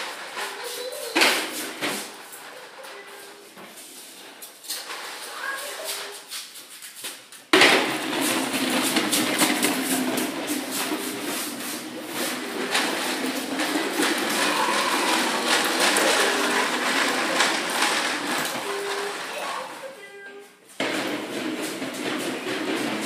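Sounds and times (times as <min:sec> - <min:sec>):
plastic wheels clattering on tiles: 0:00.0 - 0:23.0.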